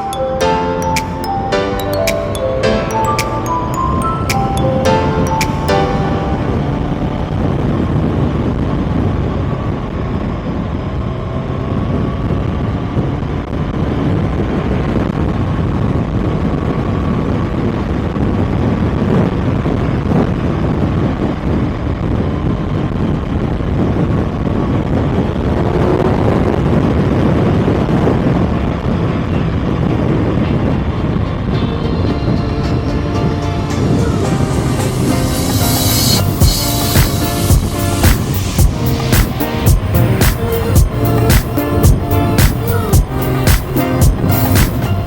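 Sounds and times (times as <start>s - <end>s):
road noise: 0.0s - 19.0s, 20.4s - 45.0s.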